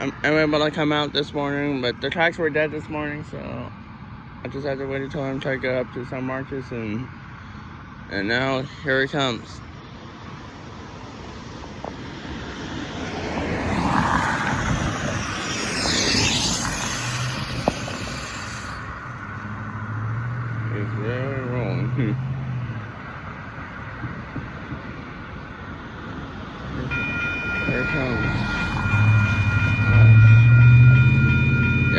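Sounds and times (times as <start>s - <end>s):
cars driving past: 0.0s - 31.9s.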